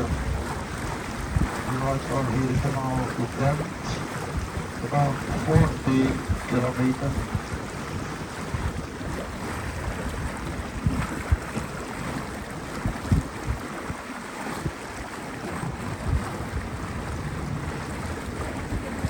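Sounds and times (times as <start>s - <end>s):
boat motor: 0.0s - 19.0s
water wash: 0.0s - 19.0s
wind thumping on microphone: 0.0s - 19.0s.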